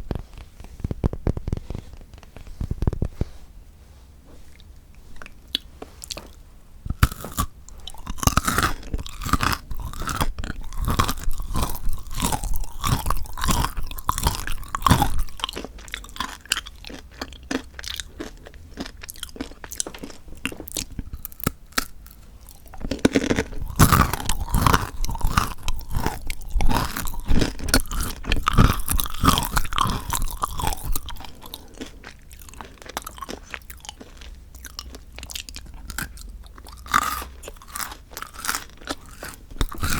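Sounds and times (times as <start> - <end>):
crunchy chewing of chocolate: 4.4 - 39.9.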